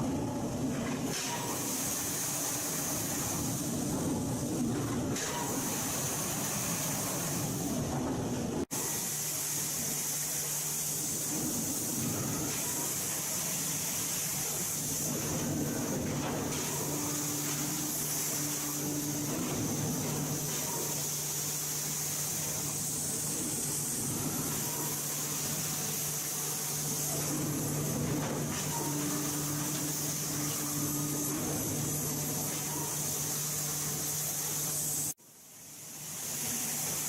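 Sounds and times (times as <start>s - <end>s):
industrial machinery hiss: 0.0s - 7.9s, 8.6s - 37.0s.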